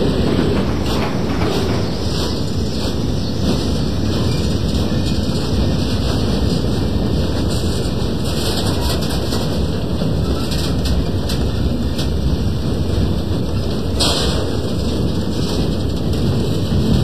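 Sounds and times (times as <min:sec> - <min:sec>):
model train wheels rumbling on rail: 0:00.0 - 0:17.0.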